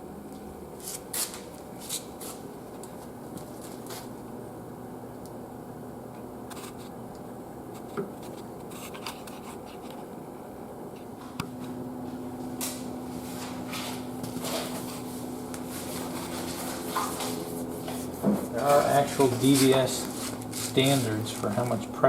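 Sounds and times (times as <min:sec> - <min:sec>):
welding machine low hum: 0:00.0 - 0:22.0.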